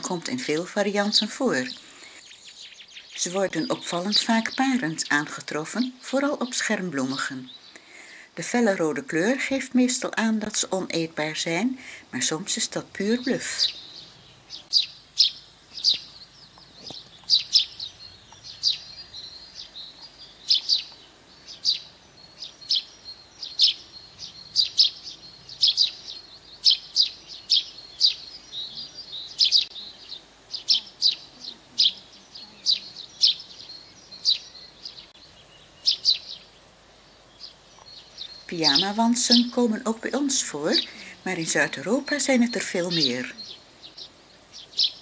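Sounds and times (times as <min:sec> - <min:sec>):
bird chirping: 0:00.0 - 0:45.0
steady high hiss: 0:00.0 - 0:45.0.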